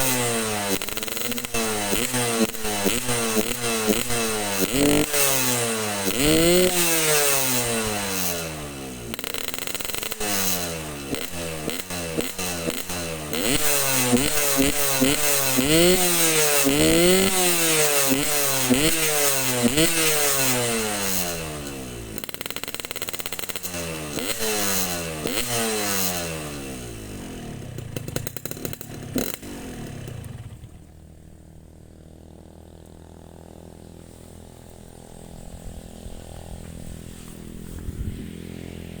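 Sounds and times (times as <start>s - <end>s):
motorcycle engine idling: 0.0s - 39.0s
motorcycle engine revving: 0.0s - 39.0s.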